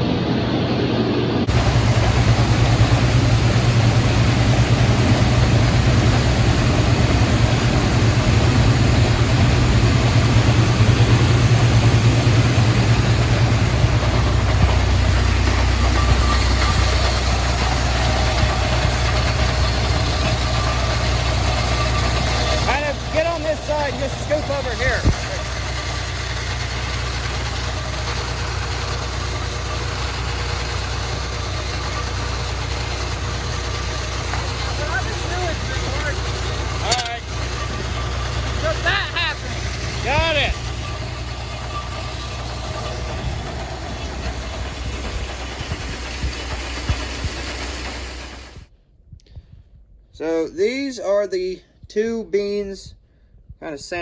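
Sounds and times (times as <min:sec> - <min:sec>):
rushing noise: 0:00.0 - 0:48.7
diesel engine running: 0:00.0 - 0:51.0.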